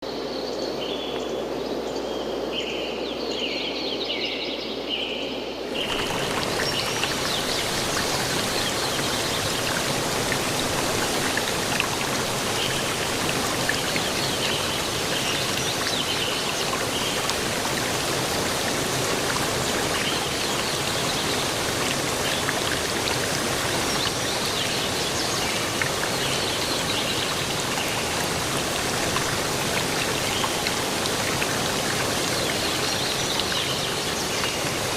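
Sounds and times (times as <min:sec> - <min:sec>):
running water or rain: 0:05.6 - 0:34.9.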